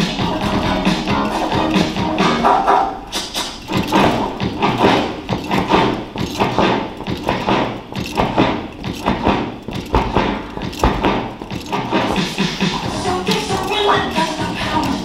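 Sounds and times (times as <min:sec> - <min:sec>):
dance music with heavy beat: 0:00.0 - 0:15.0.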